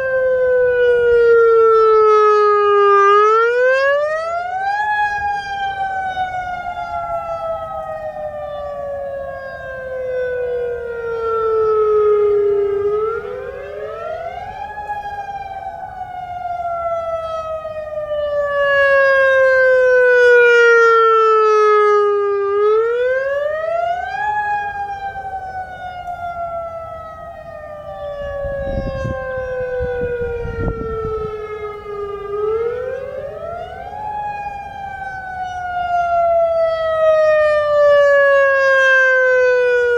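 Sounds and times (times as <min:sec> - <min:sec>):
outdoor warning siren rising and falling: 0:00.0 - 0:39.9.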